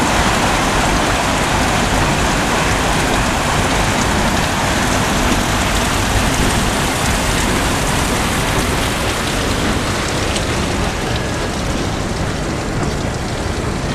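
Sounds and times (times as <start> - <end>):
paddlewheel churning water: 0.0 - 13.9.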